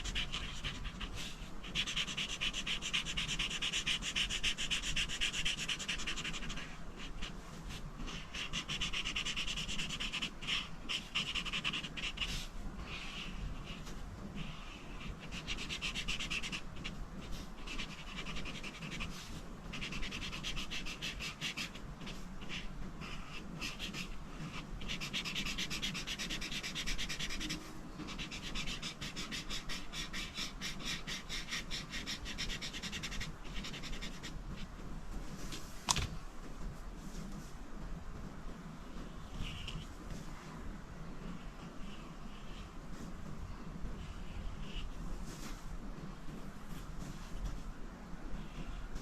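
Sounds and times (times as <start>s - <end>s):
coloring strokes scratching on paper: 0.0s - 35.5s, 41.2s - 45.6s.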